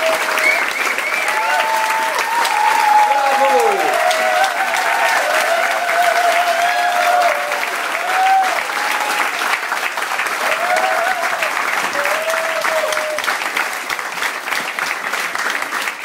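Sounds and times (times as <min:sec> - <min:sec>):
audience clapping: 0:00.0 - 0:16.0
people cheering: 0:00.0 - 0:16.0.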